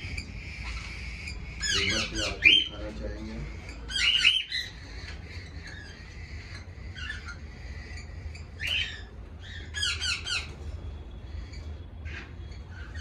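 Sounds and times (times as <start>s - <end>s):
cockatiels squawking: 0.0s - 13.0s.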